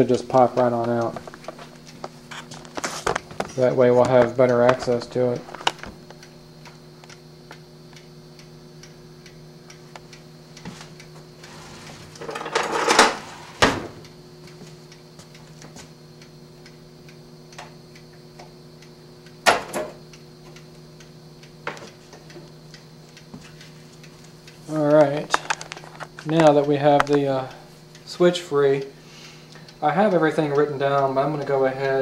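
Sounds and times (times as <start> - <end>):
mechanical timer ticking: 0.0 - 11.6, 14.0 - 32.0.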